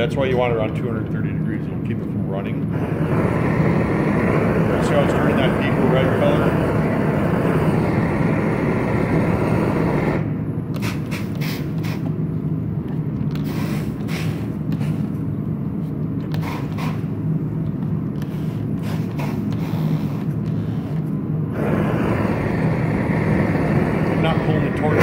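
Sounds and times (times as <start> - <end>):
gas torch burning: 0.0 - 25.0.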